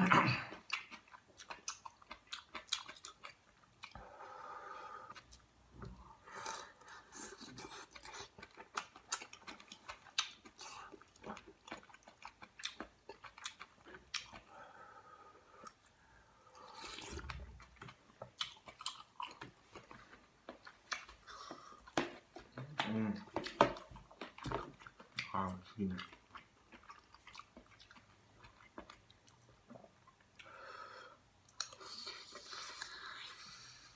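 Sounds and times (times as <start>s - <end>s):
wet chewing and mouth sounds: 0.1s - 4.2s, 4.9s - 14.6s, 15.6s - 30.6s, 31.4s - 33.9s.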